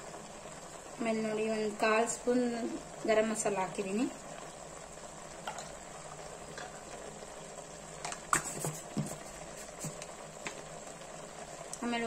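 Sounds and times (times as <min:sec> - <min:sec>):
bubbling hiss of simmering pot: 0:00.0 - 0:12.0.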